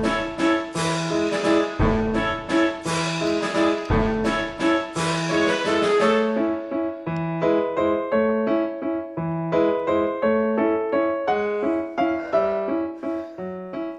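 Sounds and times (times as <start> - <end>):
light piano tune: 0.0 - 13.9.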